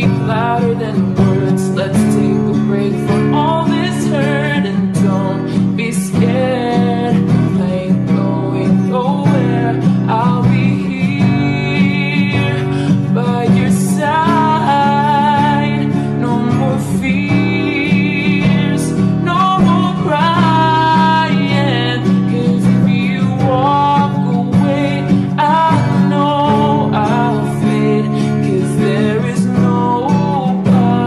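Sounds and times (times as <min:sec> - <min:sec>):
person singing: 0:00.0 - 0:31.0
pop ballad with guitar: 0:00.0 - 0:31.0.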